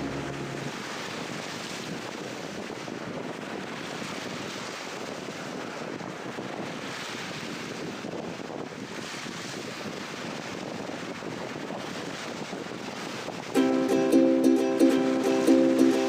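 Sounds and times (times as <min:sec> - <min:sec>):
sea waves washing ashore: 0:00.0 - 0:16.0
wind noise on microphone: 0:00.0 - 0:16.0.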